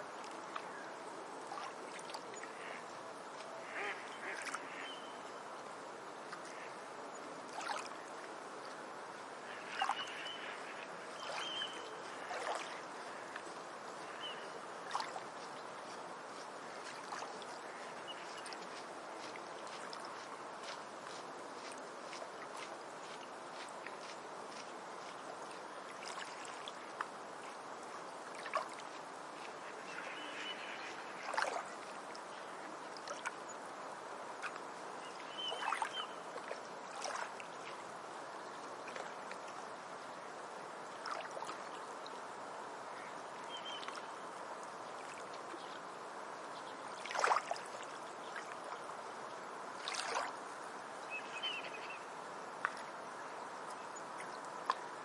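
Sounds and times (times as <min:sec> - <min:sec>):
forest stream running: 0:00.0 - 0:55.0
water splashes: 0:00.0 - 0:55.0.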